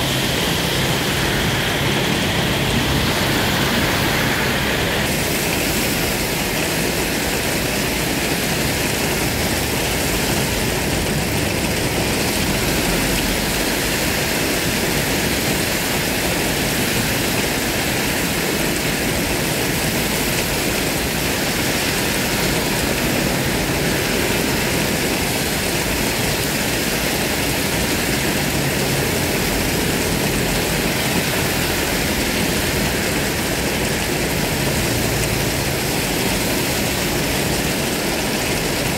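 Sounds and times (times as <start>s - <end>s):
car tyres on wet road: 0.0s - 38.9s
heavy rain on a road: 0.0s - 38.9s.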